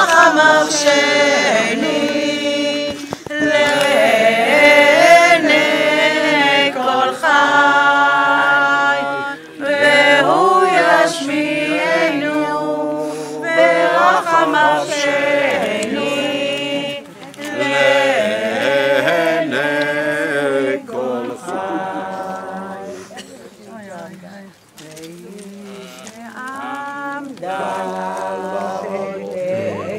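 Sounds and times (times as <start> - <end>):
group singing unaccompanied: 0.0 - 23.8, 25.1 - 29.9.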